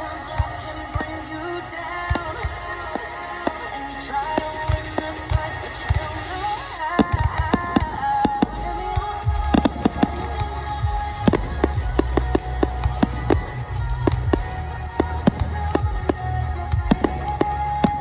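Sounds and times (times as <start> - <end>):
music playing: 0.0 - 18.0
fireworks banging and cracking: 2.1 - 18.0.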